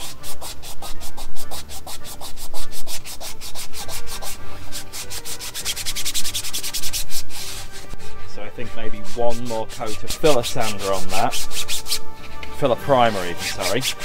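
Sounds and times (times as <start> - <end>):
sandpaper rubbing on plastic: 0.0 - 14.0.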